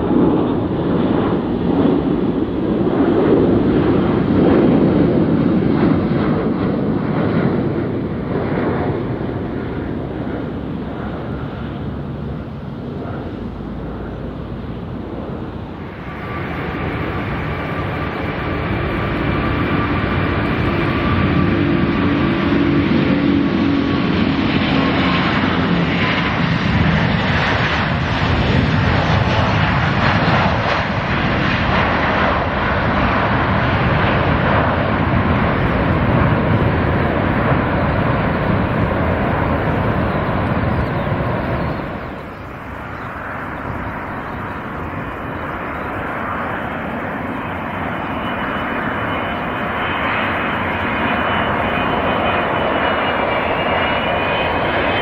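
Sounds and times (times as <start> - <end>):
jet engine takeoff roar: 0.0 - 55.0
landing jet engine whine: 0.0 - 55.0.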